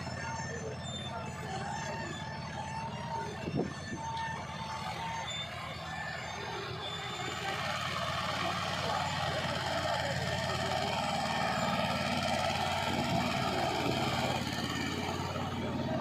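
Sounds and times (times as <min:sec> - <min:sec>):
thin whining tone: 0:00.0 - 0:16.0
tractor diesel engine running: 0:00.0 - 0:16.0.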